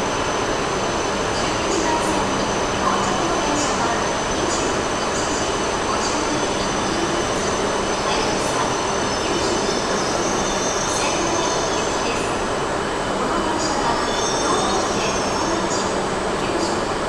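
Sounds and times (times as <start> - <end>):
high squealing of train wheels: 0.0 - 12.5, 13.3 - 17.0
train rushing on rails: 0.0 - 17.0.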